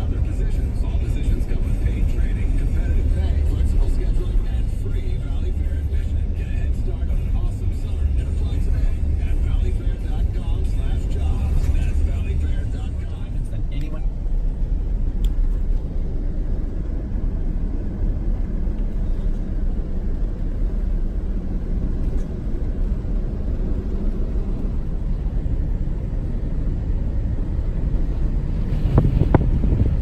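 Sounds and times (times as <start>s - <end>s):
road noise: 0.0s - 30.0s
vehicle interior engine rumble: 0.0s - 30.0s.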